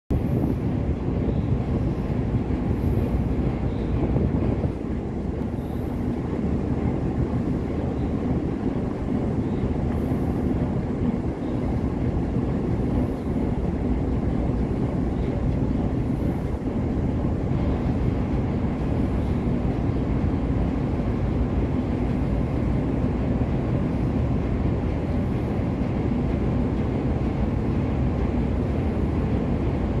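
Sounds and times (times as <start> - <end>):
ship diesel engine droning: 0.1 - 30.0.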